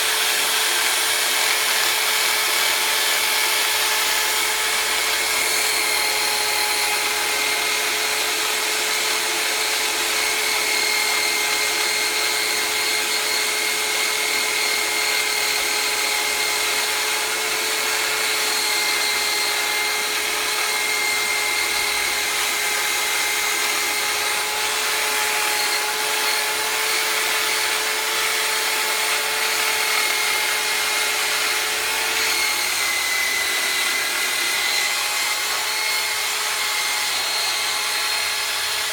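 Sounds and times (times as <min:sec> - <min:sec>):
electric power tool whining: 0:00.0 - 0:38.9.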